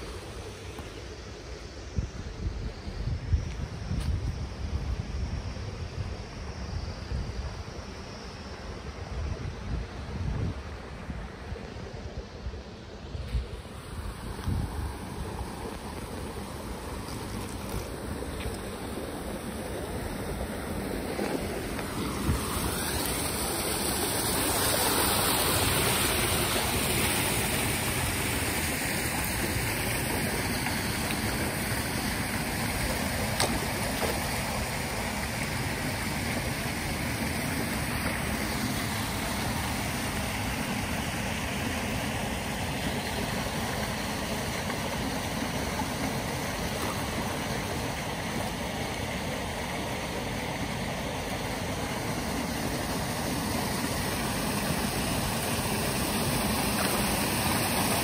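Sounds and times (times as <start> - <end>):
stream water running over rocks: 0.0 - 58.0.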